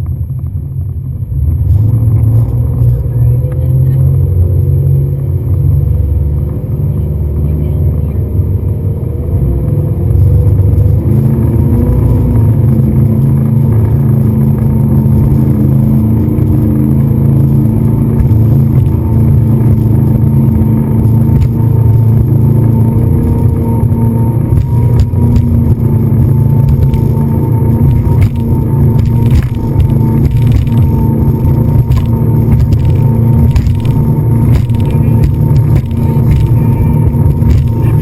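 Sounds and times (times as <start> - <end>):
speedboat engine running: 0.0 - 38.0.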